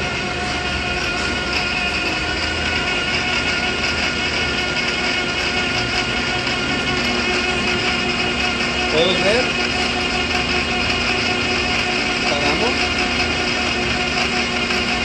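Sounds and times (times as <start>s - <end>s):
lathe running with whining hum: 0.0s - 15.0s.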